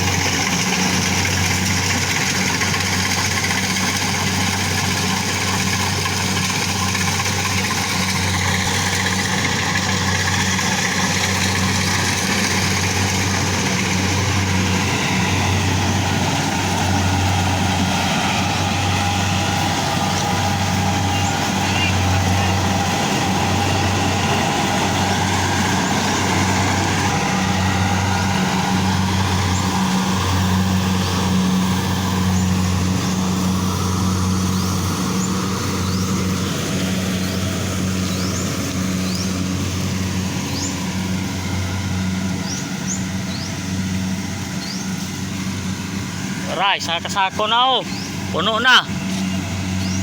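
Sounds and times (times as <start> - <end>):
harvester engine humming: 0.0 - 50.0.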